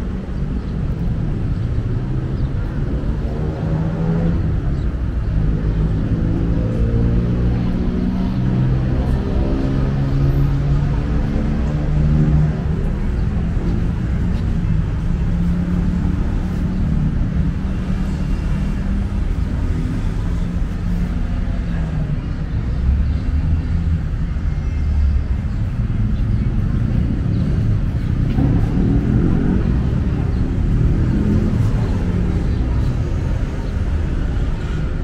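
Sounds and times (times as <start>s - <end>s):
city road traffic rumble: 0.0s - 35.0s
vehicle engines passing: 0.0s - 35.0s.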